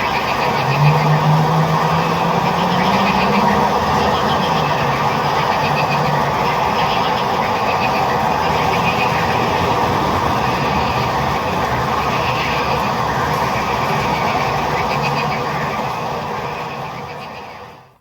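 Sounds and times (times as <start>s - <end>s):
chorus of frogs calling: 0.0s - 18.0s.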